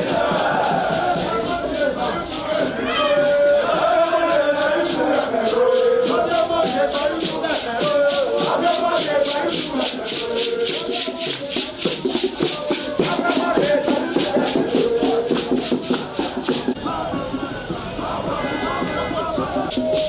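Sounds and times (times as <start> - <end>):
group singing: 0.0 - 20.0
shaken rattle beat: 0.0 - 20.0.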